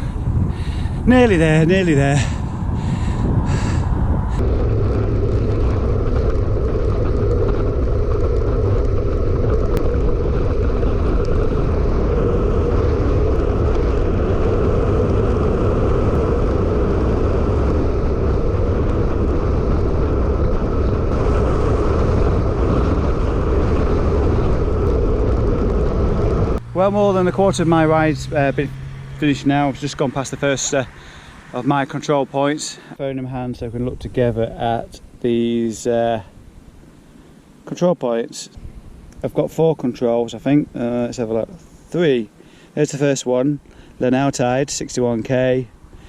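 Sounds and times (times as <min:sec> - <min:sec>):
wind buffeting microphone: 0:00.0 - 0:37.6, 0:38.5 - 0:42.8.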